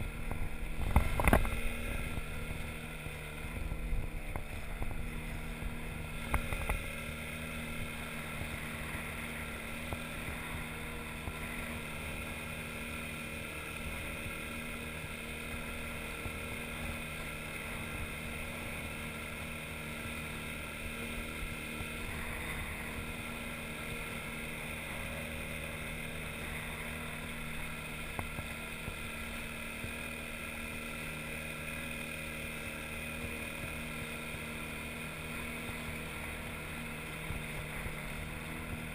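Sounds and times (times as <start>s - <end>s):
outboard motor running: 0.0s - 38.9s
water swishing along hull: 0.0s - 38.9s.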